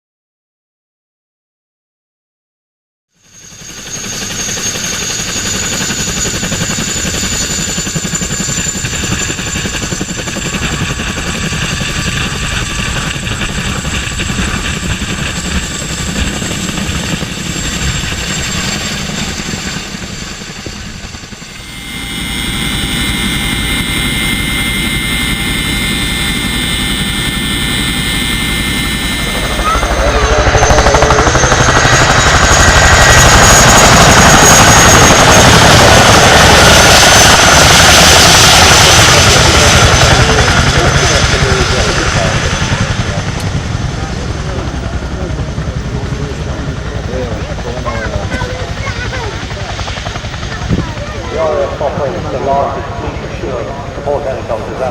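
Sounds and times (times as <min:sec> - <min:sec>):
helicopter rotor noise: 0:03.2 - 0:54.9
high turbine whine: 0:03.2 - 0:54.9.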